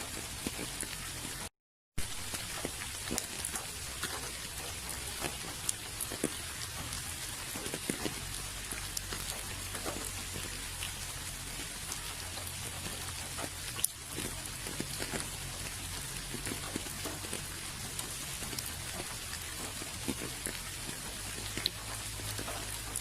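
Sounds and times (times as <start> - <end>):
raindrops tapping: 0.0 - 23.0
steady rain falling: 0.0 - 23.0.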